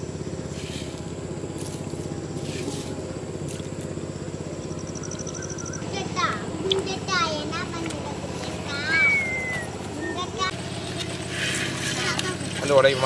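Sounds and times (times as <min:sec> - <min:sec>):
small engine throbbing: 0:00.0 - 0:13.0.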